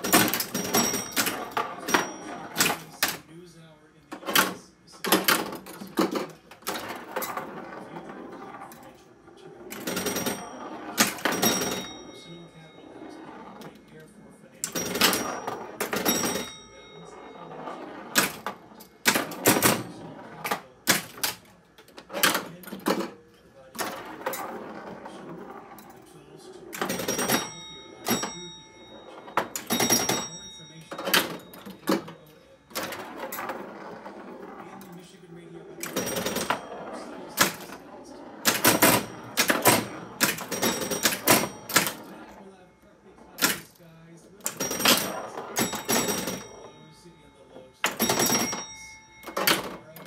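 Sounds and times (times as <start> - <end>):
pinball machine mechanical clacks: 0.0 - 3.5, 4.1 - 50.0
pinball bell ringing: 0.0 - 50.0.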